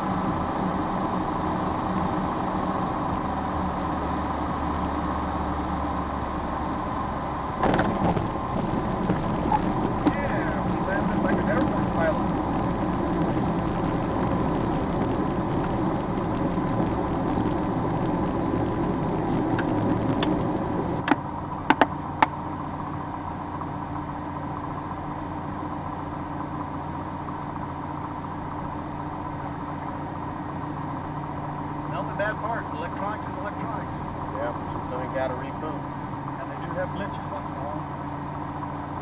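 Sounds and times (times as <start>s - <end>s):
propeller plane engine running: 0.0s - 39.0s.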